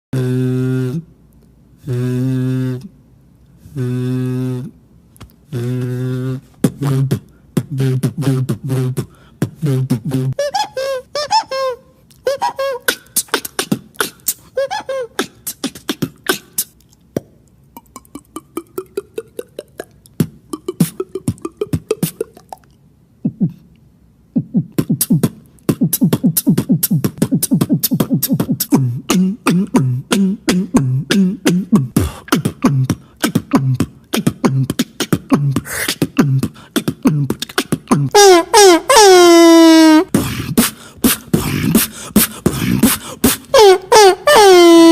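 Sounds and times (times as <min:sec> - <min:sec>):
beatboxing clicks and hits: 0:00.2 - 0:10.8, 0:12.0 - 0:23.8, 0:24.4 - 0:39.2, 0:39.8 - 0:44.9.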